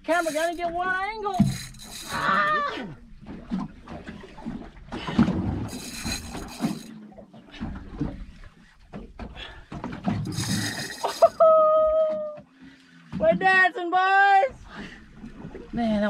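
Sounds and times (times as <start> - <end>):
water against boat hull: 0.0 - 13.7, 14.5 - 16.0.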